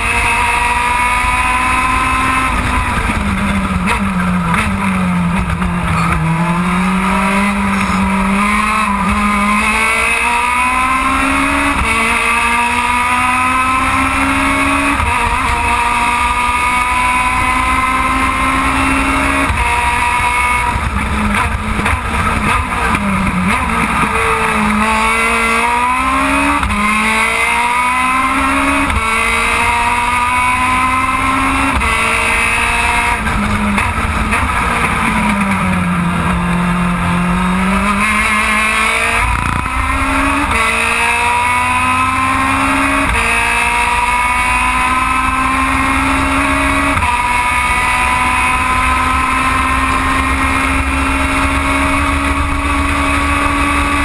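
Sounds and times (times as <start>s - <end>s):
racing car engine at full throttle: 0.0s - 54.0s.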